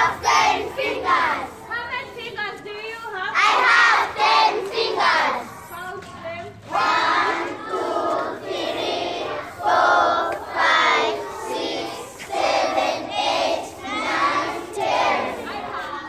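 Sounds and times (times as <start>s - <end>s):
children singing together: 0.0s - 1.7s, 3.4s - 5.7s, 6.6s - 16.0s.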